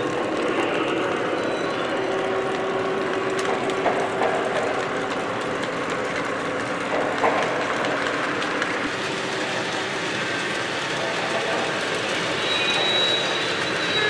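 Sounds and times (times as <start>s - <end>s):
model train wheels clattering: 0.0s - 14.0s.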